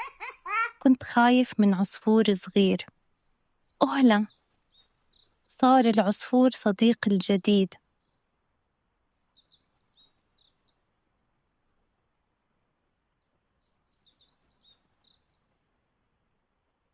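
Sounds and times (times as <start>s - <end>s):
songbird chirping: 0.0s - 16.9s.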